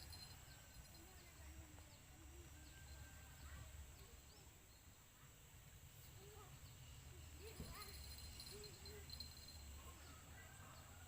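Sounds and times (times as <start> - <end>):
steady high hiss: 0.0 - 10.4.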